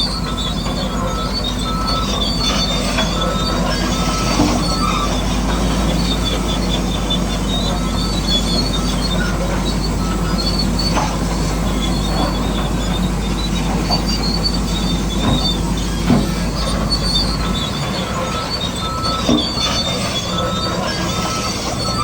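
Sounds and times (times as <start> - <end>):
high squeaks from gearing: 0.0 - 22.0.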